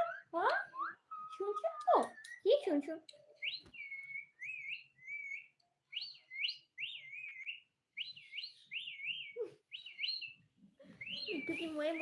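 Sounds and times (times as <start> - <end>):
parrot whistling: 0.0 - 2.4, 3.4 - 10.4, 11.0 - 12.0.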